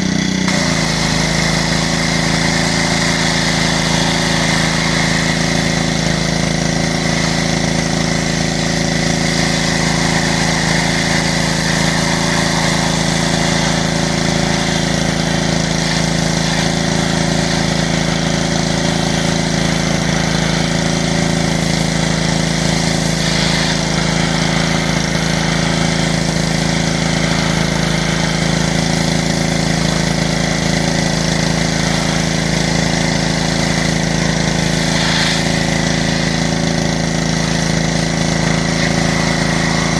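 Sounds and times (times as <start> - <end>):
pressure washer motor humming: 0.0 - 39.9
water jet spraying bodywork: 0.2 - 39.9.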